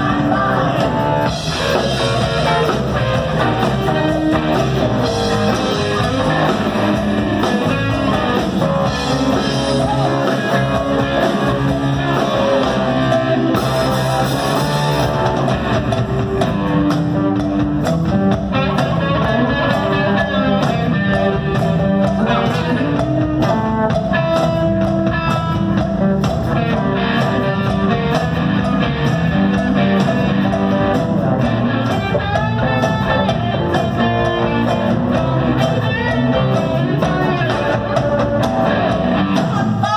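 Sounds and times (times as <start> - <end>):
electric guitar: 0.0 - 39.9
live rock band playing: 0.0 - 39.9.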